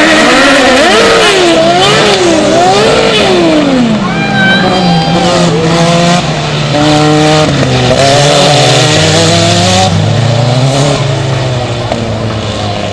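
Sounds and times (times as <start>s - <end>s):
buggy engines revving: 0.0s - 12.9s.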